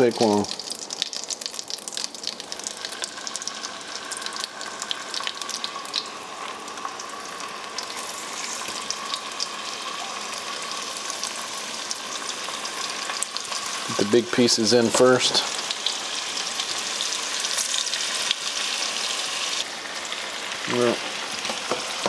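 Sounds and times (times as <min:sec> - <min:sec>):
meat sizzling in butter: 0:00.0 - 0:22.0.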